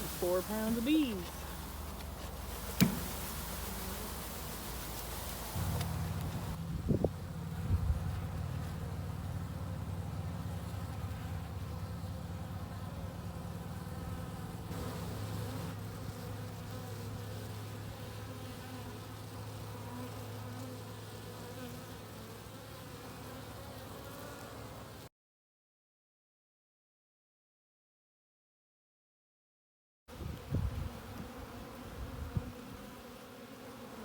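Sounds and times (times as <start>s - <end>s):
honey bees buzzing: 0.0s - 25.1s, 30.1s - 34.0s.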